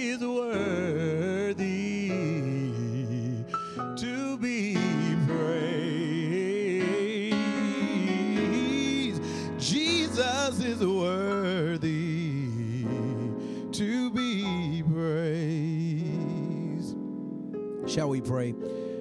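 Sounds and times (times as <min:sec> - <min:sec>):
man singing gospel: 0:00.0 - 0:17.0.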